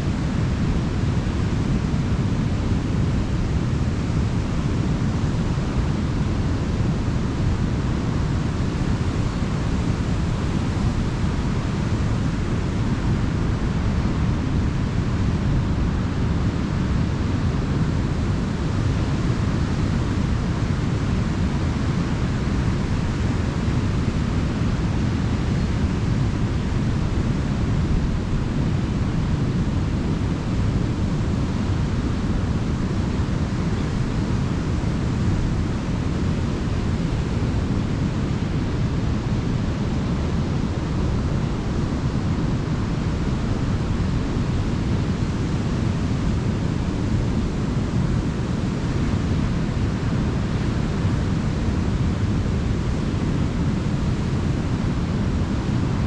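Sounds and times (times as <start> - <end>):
ocean waves washing on beach: 0.1 - 56.0.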